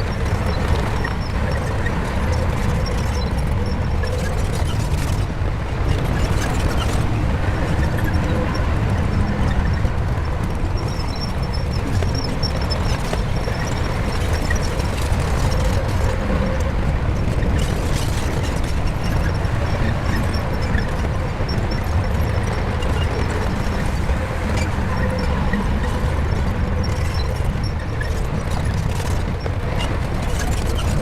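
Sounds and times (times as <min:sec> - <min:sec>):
bulldozer diesel engine rumbling: 0:00.0 - 0:31.0.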